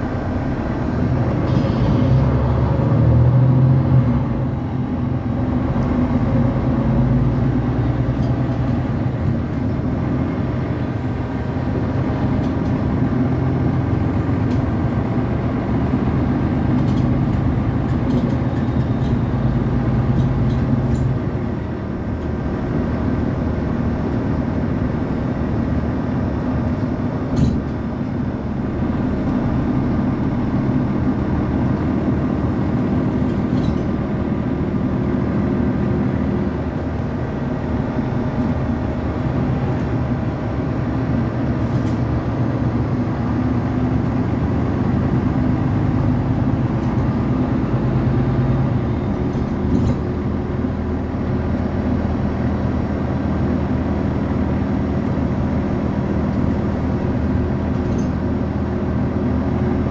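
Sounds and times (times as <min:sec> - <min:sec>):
bus drivetrain hum: 0:00.0 - 0:59.9
road noise: 0:00.0 - 0:59.9.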